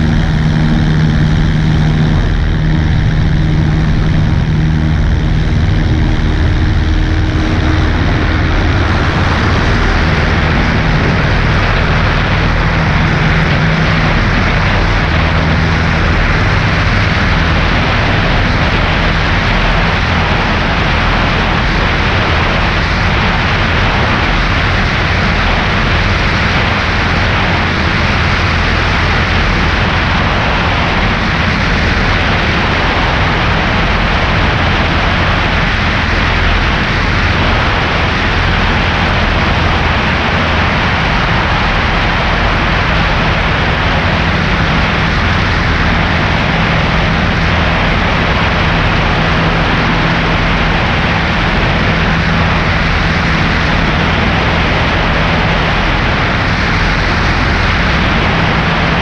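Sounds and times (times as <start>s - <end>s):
light aircraft engine drone: 0.0s - 59.0s
rushing noise: 0.0s - 59.0s.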